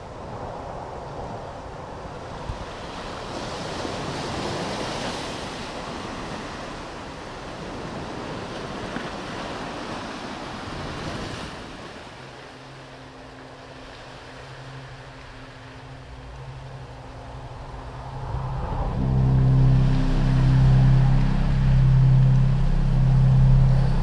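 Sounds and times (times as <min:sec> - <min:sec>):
wind blowing across microphone: 0:00.0 - 0:12.2, 0:14.9 - 0:24.0
sea waves washing onto beach: 0:00.9 - 0:24.0.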